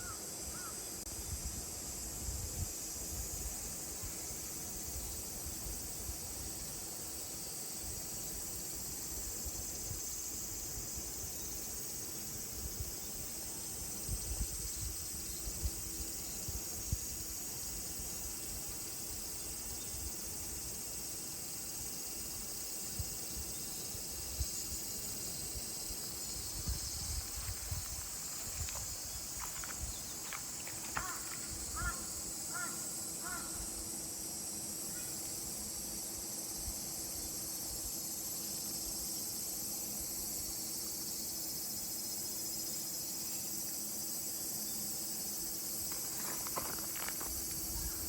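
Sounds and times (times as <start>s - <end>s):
insects shrilling: 2.8s - 48.0s.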